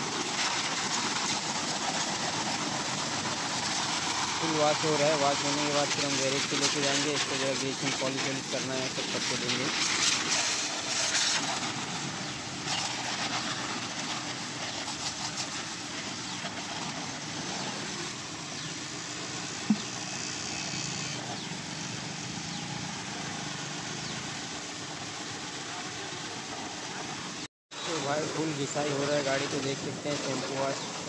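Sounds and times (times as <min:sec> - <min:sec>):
water spraying with steady hiss: 0:00.0 - 0:31.0.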